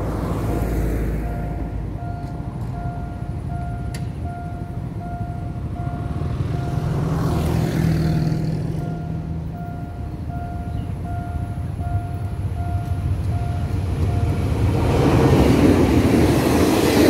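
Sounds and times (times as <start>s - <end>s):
road vehicle passing: 0.0s - 17.0s
railroad crossing warning tone: 0.8s - 15.8s.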